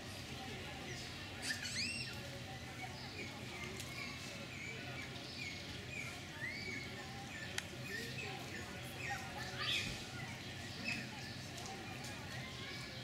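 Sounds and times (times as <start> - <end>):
background noise: 0.0 - 13.0
animal chirps and squeaky calls: 0.9 - 11.5.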